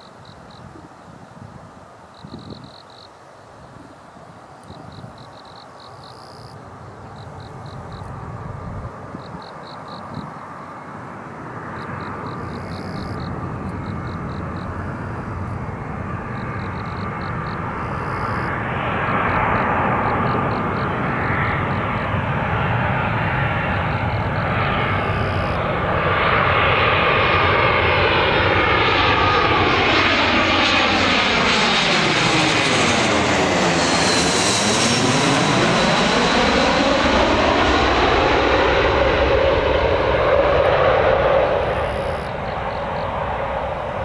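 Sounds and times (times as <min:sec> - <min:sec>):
jet airliner passing overhead: 0:00.0 - 0:44.0.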